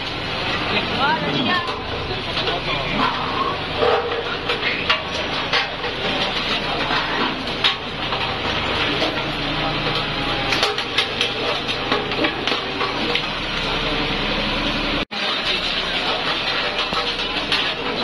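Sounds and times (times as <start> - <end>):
metal pipes crunching and clanking: 0.0 - 18.0
road roller engine running: 0.0 - 18.0.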